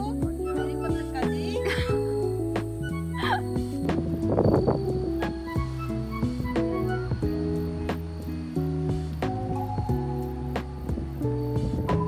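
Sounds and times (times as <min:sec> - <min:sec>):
background music of held notes: 0:00.0 - 0:12.0.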